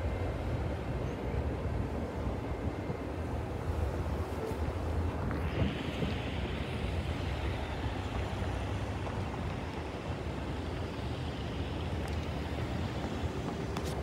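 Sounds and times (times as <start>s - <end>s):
distant diesel train rumble: 0.0s - 14.0s
wind on microphone: 0.0s - 14.0s.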